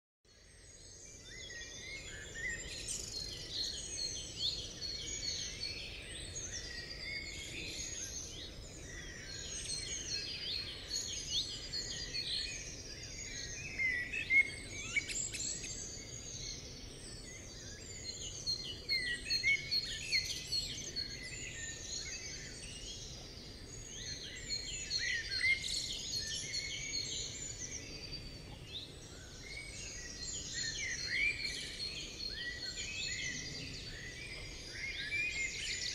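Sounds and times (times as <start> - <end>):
birds singing and calling: 0.4 - 35.9.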